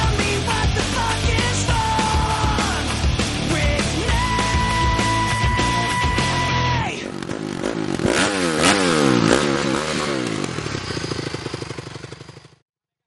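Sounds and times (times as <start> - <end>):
motocross bike engine revving: 0.0 - 12.6.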